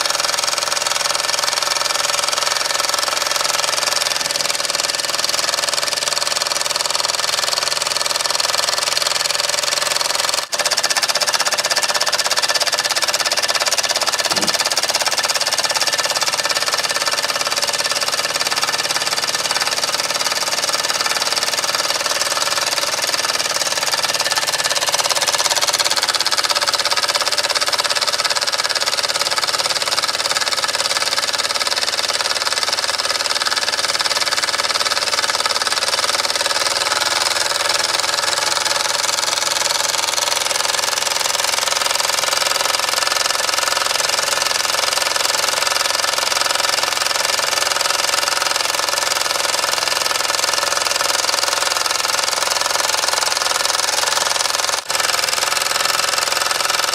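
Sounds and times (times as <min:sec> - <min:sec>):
model steam engine running: 0:00.0 - 0:56.9.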